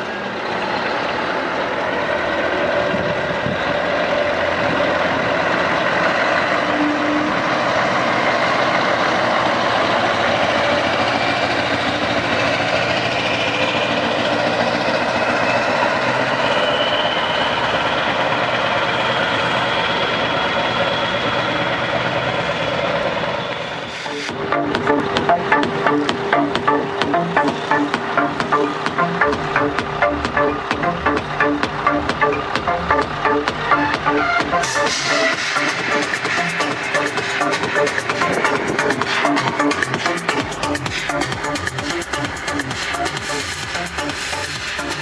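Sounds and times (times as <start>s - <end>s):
truck diesel engine running: 0.0s - 45.0s.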